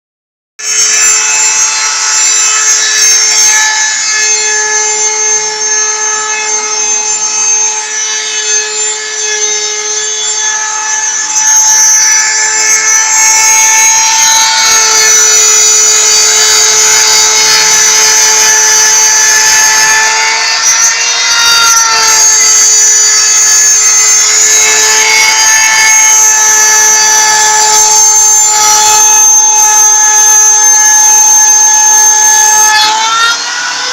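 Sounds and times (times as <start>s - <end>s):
machine motor whining: 0.6s - 33.9s.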